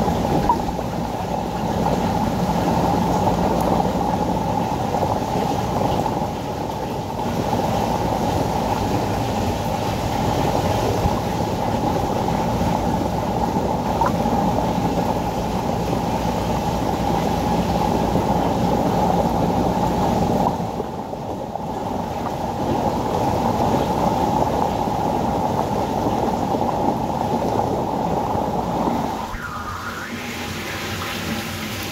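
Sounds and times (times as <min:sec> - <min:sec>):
aquarium water and pumps: 0:00.0 - 0:31.9
fine bubbles: 0:00.0 - 0:31.9.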